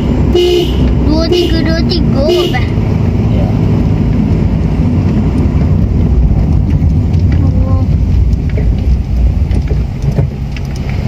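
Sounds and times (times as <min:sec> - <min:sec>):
vehicle rumble on rough road: 0:00.0 - 0:11.0.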